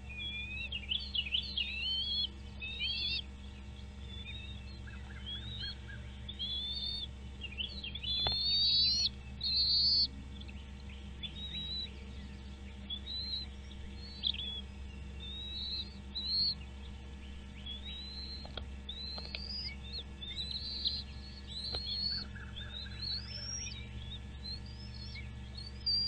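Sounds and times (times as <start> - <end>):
birds chirping and whistling: 0.0 - 26.0
steady low hum: 0.0 - 26.0.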